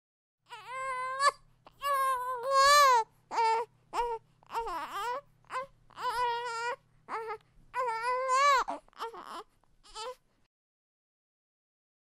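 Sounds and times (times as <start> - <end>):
baby crying: 0.5 - 10.2.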